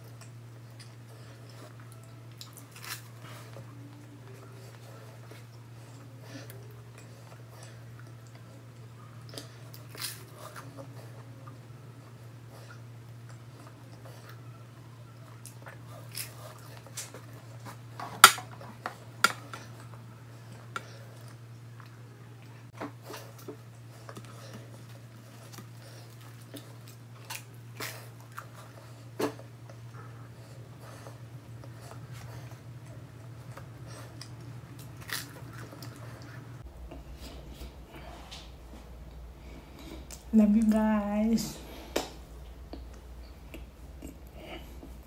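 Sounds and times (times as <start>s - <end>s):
person chewing toast: 0.0s - 40.3s
steady low hum: 0.0s - 45.0s.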